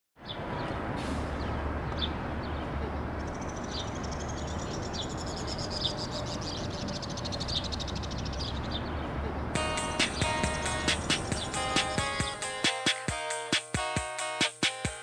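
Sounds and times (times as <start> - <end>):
birds chirping: 0.2 - 15.0.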